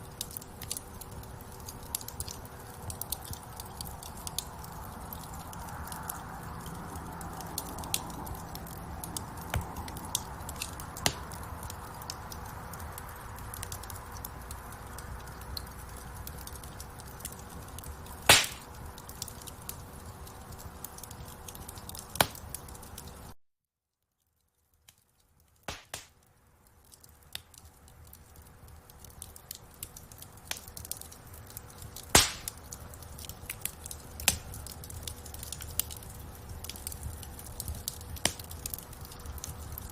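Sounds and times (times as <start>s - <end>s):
wood fire crackling: 0.0s - 23.4s, 24.2s - 39.9s.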